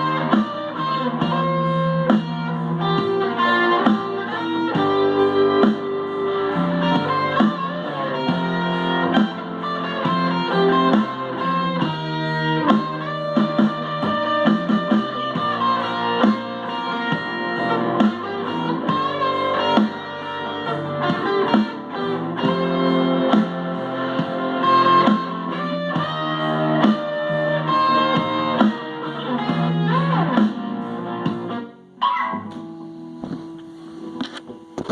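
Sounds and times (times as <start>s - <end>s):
drum backing: 0.0s - 31.6s, 32.5s - 34.9s
bass backing: 0.0s - 34.9s
electric guitar: 0.0s - 34.9s.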